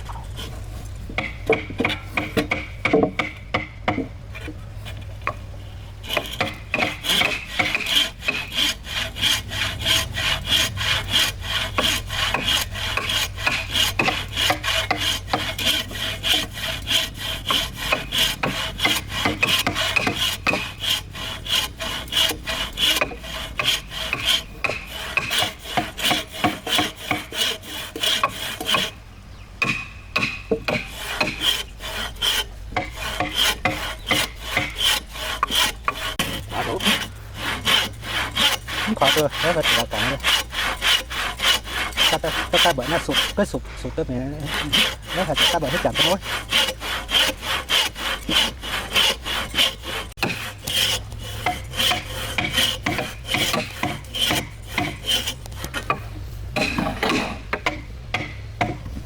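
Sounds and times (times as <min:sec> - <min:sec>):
hand tool working wood: 0:00.0 - 0:29.0, 0:29.6 - 0:59.0.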